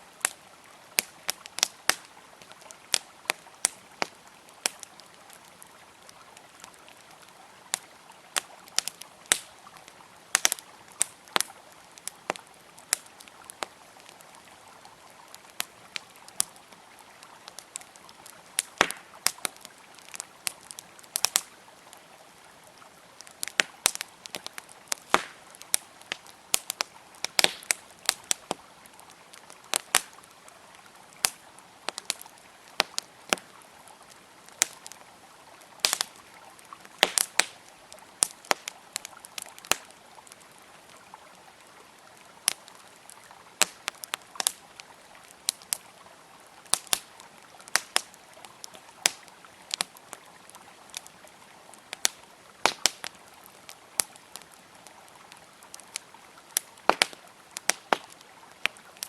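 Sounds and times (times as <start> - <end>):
campfire crackling and popping: 0.0 - 59.0
river flowing: 0.0 - 59.0.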